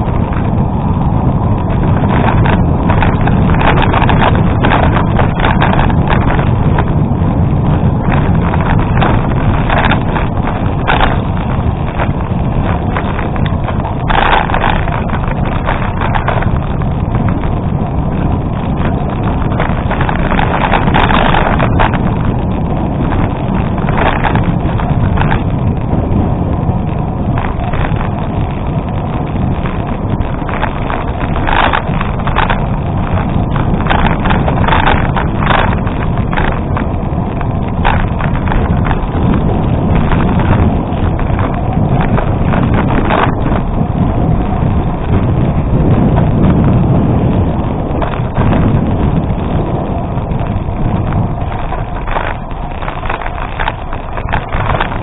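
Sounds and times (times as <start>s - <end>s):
bicycle tyres rumbling on gravel: 0.0s - 55.0s
bike clattering over bumps: 0.0s - 55.0s
wind buffeting microphone: 0.0s - 55.0s.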